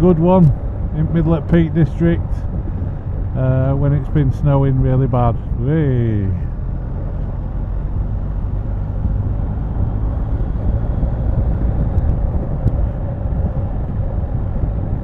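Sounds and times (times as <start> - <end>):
motorcycle engine drone: 0.0 - 15.0
road and wind noise: 0.0 - 15.0.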